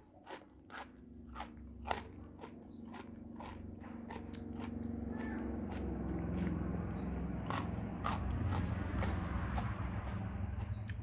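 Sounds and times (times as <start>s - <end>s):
crunchy chewing of vegetables: 0.0s - 11.0s.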